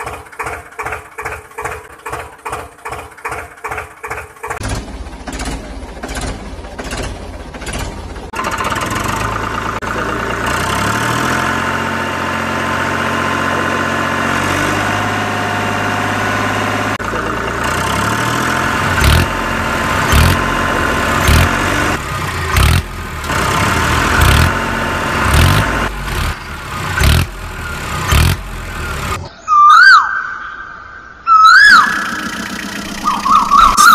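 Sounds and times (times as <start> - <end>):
tractor engine revving: 0.0 - 29.3, 31.5 - 33.9.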